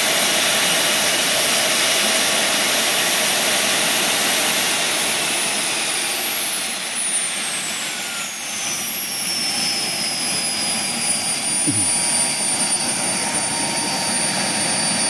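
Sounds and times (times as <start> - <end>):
jet turbine hiss and whine: 0.0 - 15.0.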